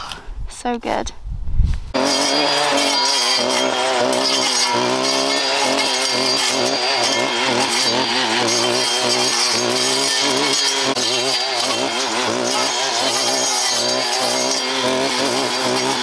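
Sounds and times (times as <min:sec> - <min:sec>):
petrol strimmer cutting stems: 0:01.9 - 0:16.0.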